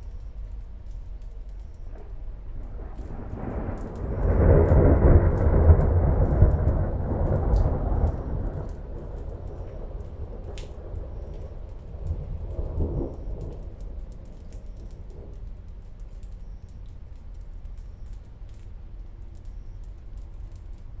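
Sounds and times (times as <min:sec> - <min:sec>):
steady rain: 0:00.0 - 0:21.0
thunder rumbling: 0:00.0 - 0:21.0
water drips ticking: 0:00.0 - 0:21.0.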